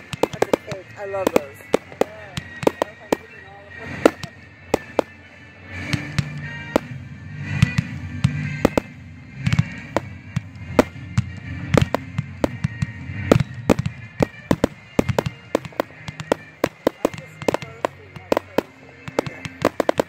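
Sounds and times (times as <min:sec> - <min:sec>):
fireworks shells bursting: 0:00.0 - 0:20.0.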